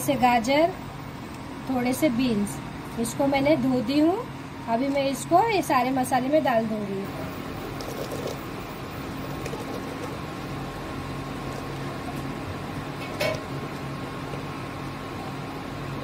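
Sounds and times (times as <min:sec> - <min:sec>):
steady hum and hiss: 0:00.0 - 0:16.0.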